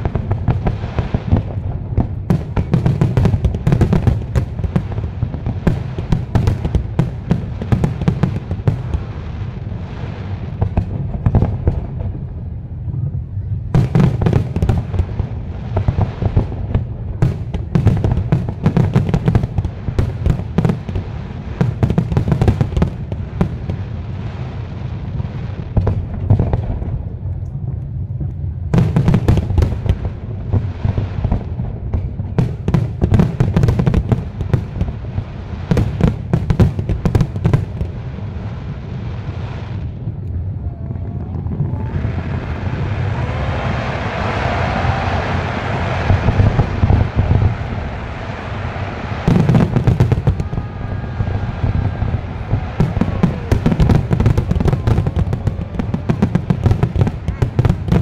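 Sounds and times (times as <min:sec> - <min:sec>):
continuous low rumble: 0:00.0 - 0:58.0.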